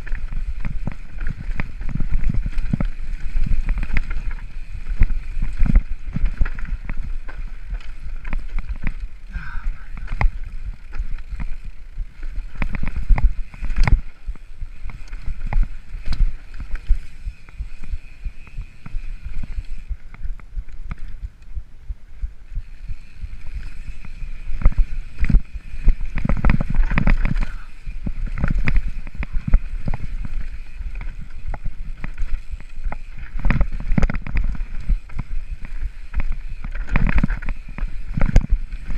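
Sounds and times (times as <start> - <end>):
bike rattling over rocks: 0.0 - 21.6, 22.5 - 38.9
wind rumbling on microphone: 0.0 - 38.9.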